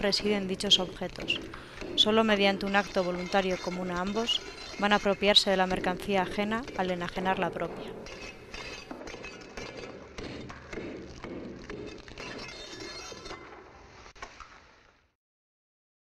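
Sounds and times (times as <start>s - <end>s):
metal tool chipping stone: 0.2s - 13.6s.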